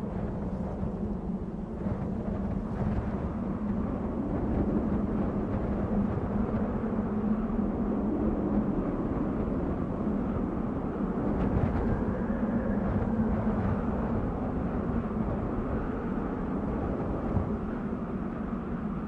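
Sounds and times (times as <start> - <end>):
wind rushing rumble: 0.0 - 19.0.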